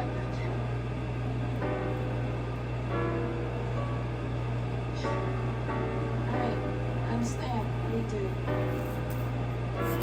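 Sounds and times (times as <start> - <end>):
faint background music: 0.0 - 10.0
steady low hum: 0.0 - 10.0.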